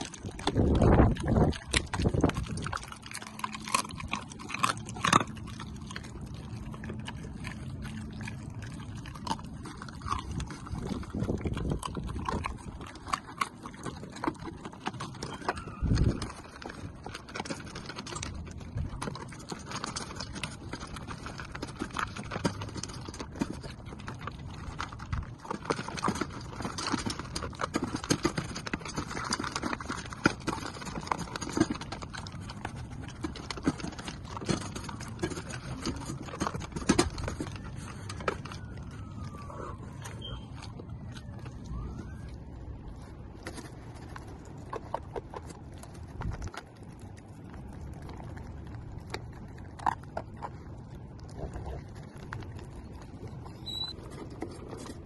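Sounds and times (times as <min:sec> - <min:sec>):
dogs crunching and chewing food: 0:00.0 - 0:55.0.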